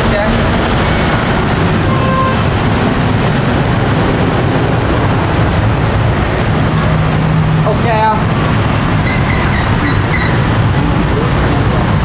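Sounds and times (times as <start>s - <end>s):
busy street traffic: 0.0s - 12.0s.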